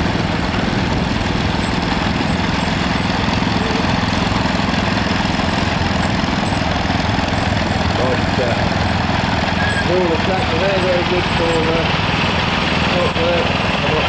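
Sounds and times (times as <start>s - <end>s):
tractor engines rumbling: 0.0s - 14.0s.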